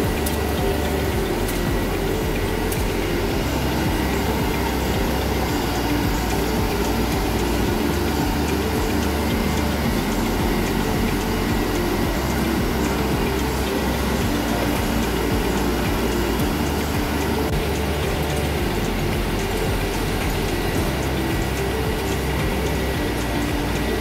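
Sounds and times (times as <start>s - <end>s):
factory machinery hum and rumble: 0.0s - 24.0s
faint regular ticking: 0.0s - 24.0s.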